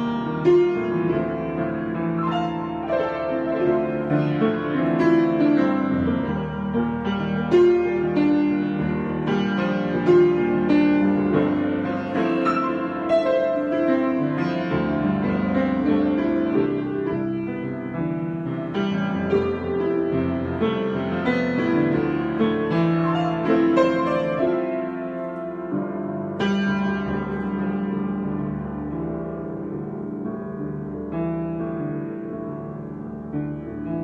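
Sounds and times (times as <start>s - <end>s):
solo piano playing: 0.0s - 34.0s.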